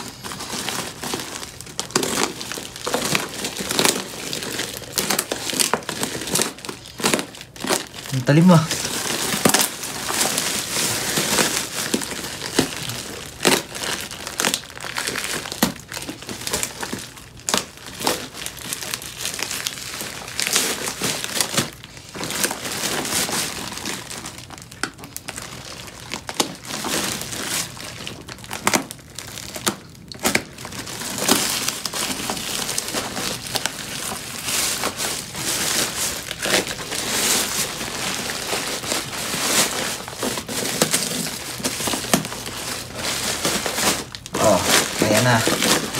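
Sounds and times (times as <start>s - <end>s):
plastic wrapping crinkling: 0.0s - 45.9s.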